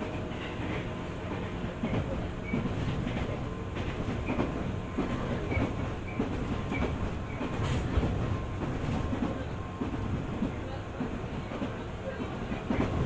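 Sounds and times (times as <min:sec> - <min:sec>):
electric train rumbling: 0:00.0 - 0:13.0
wheel clacks on track: 0:00.4 - 0:13.0.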